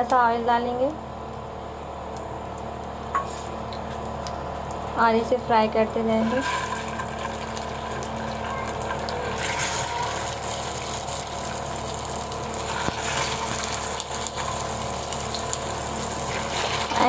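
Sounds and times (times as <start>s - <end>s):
kebabs sizzling in hot oil: 0.0s - 17.0s.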